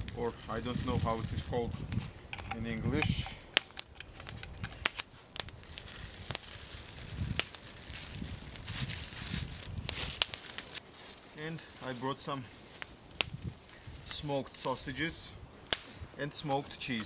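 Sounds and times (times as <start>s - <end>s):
plastic wrapping crinkling: 0.0s - 14.1s
campfire crackling: 0.0s - 17.0s.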